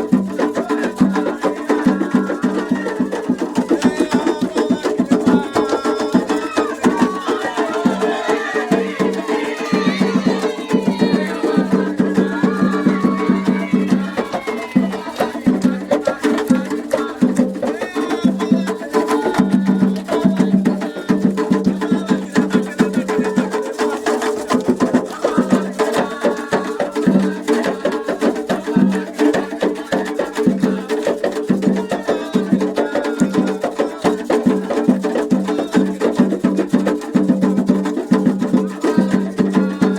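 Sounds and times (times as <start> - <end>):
hand drums beating fast rhythm: 0.0 - 39.9
people singing: 0.0 - 39.9.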